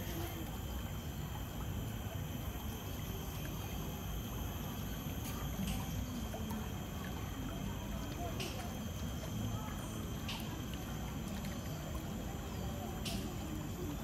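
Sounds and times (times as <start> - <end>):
water trickling and flowing: 0.0 - 14.0.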